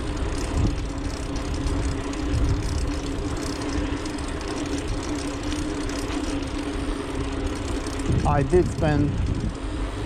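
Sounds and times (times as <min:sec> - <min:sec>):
steady engine-like hum: 0:00.0 - 0:10.0
street traffic: 0:00.0 - 0:10.0
wind rumbling on microphone: 0:00.0 - 0:10.0.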